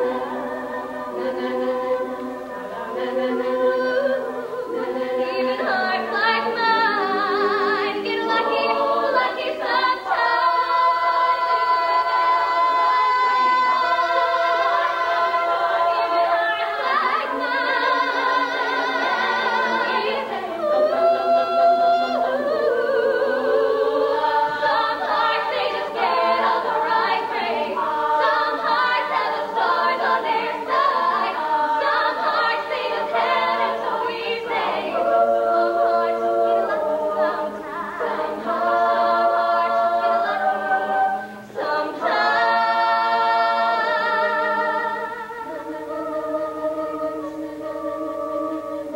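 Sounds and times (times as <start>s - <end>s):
women singing in harmony: 0.0s - 48.9s.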